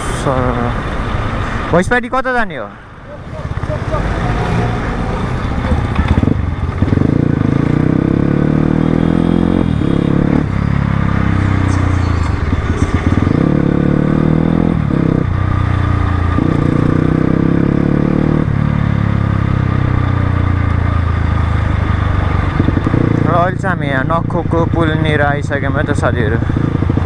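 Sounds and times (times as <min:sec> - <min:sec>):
dirt bike engine revving: 0:03.0 - 0:27.0.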